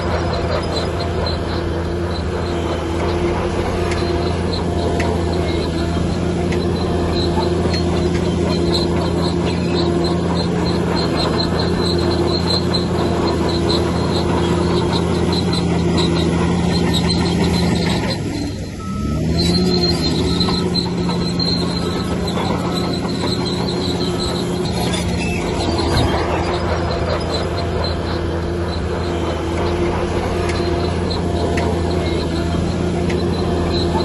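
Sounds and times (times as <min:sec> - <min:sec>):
bulldozer diesel engine: 0:00.0 - 0:34.0
high pulsing squeal: 0:00.0 - 0:34.0.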